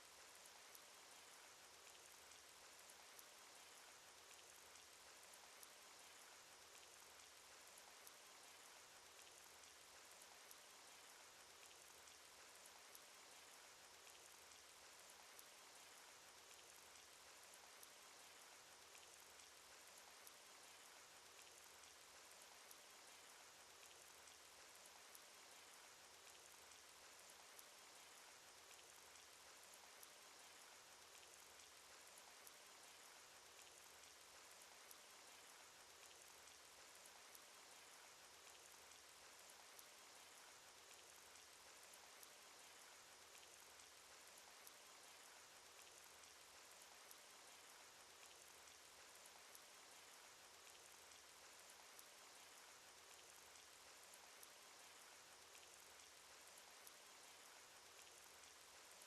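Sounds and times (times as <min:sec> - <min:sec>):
raindrop ticks: 0:00.0 - 0:59.0
rainfall hiss: 0:00.0 - 0:59.0.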